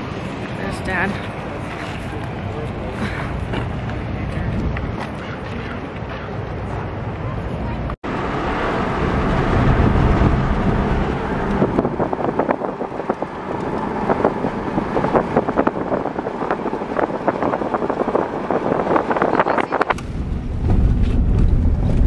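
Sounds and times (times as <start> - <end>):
vehicle driving rumble: 0.0 - 22.0
wind buffeting microphone: 0.0 - 22.0.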